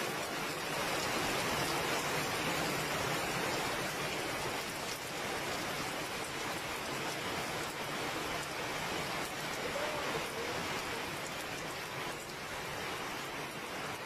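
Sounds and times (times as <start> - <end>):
heavy rain on leaves: 0.0 - 14.0.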